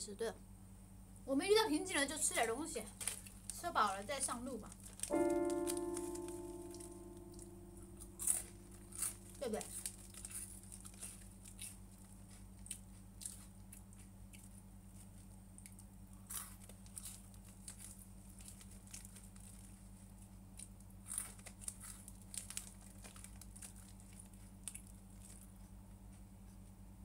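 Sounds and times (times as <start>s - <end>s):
low electrical hum: 0.0s - 27.0s
food packaging crinkling: 2.4s - 25.5s
crunching and chewing: 2.8s - 26.7s.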